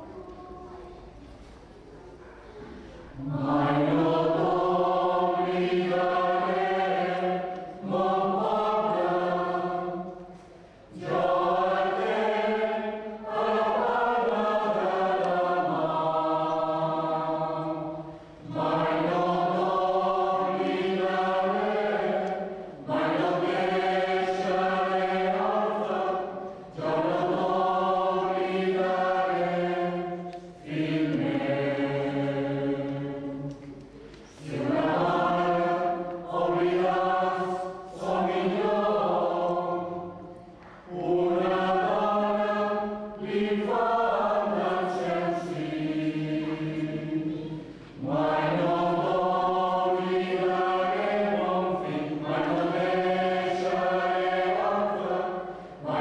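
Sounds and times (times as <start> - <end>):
mixed choir singing a lullaby: 0.0 - 56.0.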